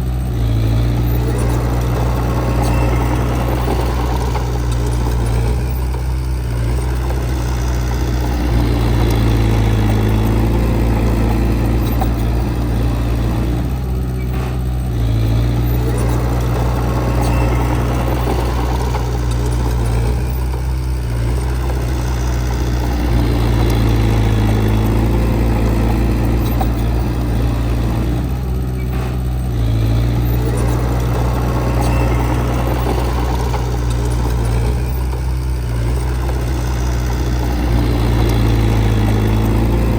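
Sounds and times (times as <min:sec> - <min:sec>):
diesel engine of heavy machine: 0:00.0 - 0:39.9.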